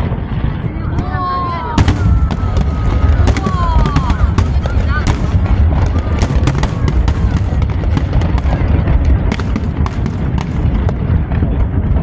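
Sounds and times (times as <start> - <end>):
fireworks bangs and crackles: 0.0 - 12.0
low rumble of booms: 0.0 - 12.0.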